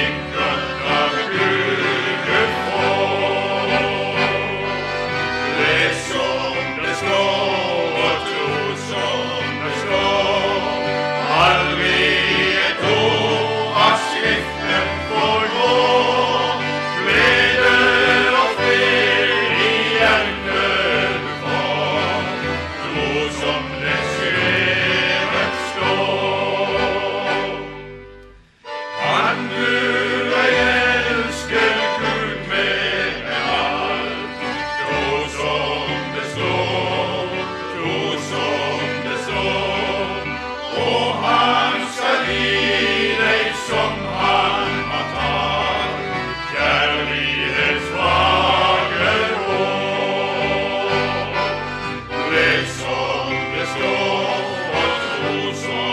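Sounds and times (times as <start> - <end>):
male vocal group singing gospel: 0.0 - 27.8, 29.0 - 55.9
instrumental accompaniment: 0.0 - 55.9.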